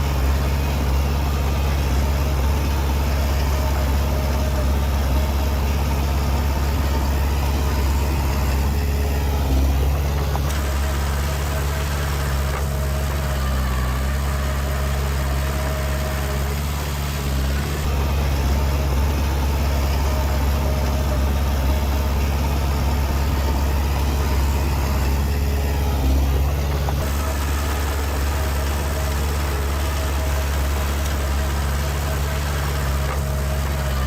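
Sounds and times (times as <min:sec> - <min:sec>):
heavy diesel engine droning: 0:00.0 - 0:34.0.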